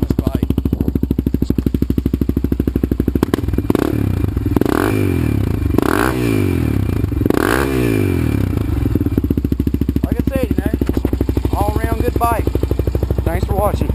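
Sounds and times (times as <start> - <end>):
quad engine idling and revving: 0.0 - 13.9.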